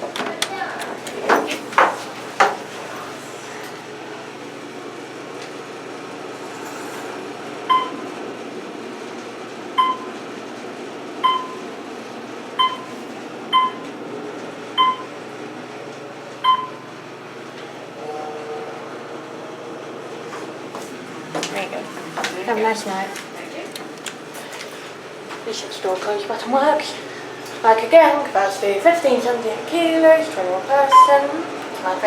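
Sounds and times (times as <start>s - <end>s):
elevator car humming: 0.0s - 32.0s.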